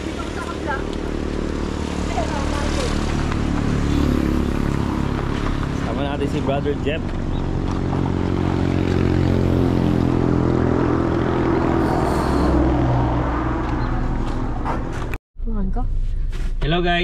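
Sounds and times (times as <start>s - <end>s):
vehicle engine running: 0.0s - 15.2s.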